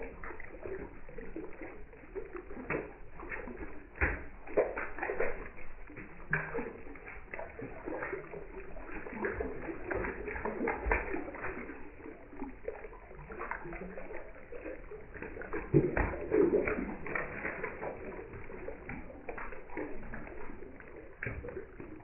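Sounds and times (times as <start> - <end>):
fish thrashing at water surface: 0.0 - 22.0
water splashing and sloshing: 0.0 - 22.0.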